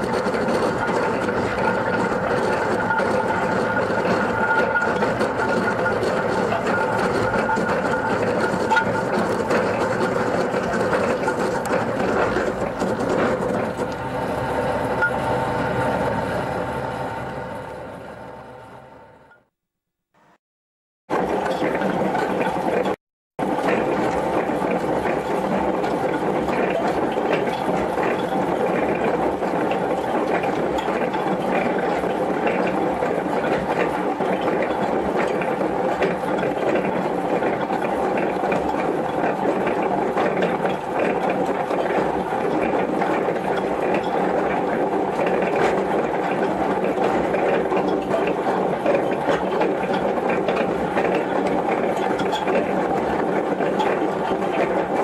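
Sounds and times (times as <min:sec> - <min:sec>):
mechanical grinding: 0:00.0 - 0:19.4, 0:21.1 - 0:55.0.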